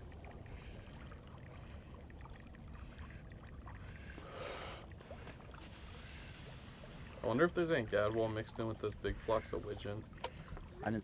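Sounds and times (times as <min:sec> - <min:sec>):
water drips: 0:00.0 - 0:11.0
water sloshing and trickling: 0:00.0 - 0:11.0.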